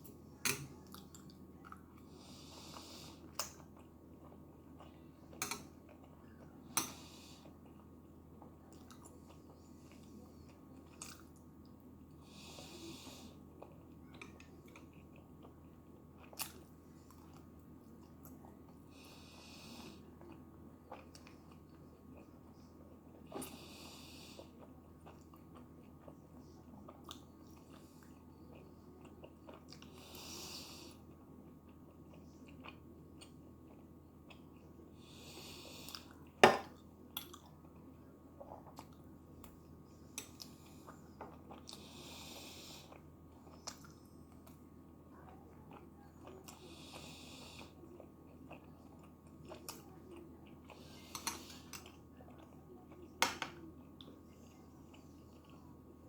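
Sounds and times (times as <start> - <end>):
person chewing with wet clicks: 0.0 - 11.8, 13.5 - 18.8, 19.7 - 34.8, 35.7 - 56.0.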